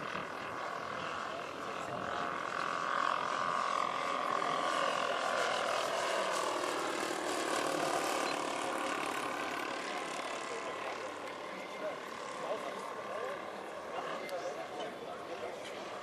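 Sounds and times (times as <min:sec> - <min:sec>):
model airplane engines droning: 0:00.0 - 0:16.0.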